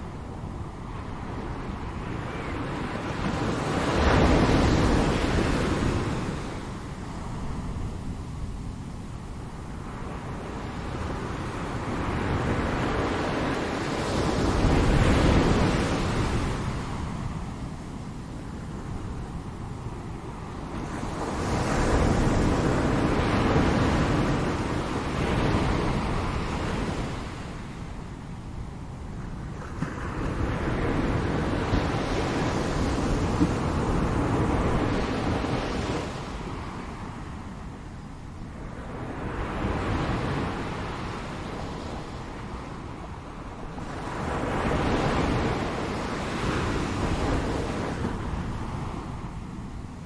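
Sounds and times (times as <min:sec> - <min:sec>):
low rumble of surf: 0:00.0 - 0:50.0.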